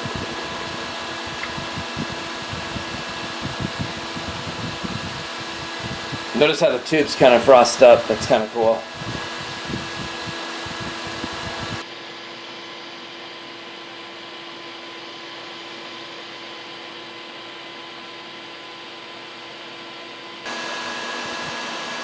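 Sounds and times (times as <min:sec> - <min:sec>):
fan whirring with a hum: 0:00.0 - 0:22.0.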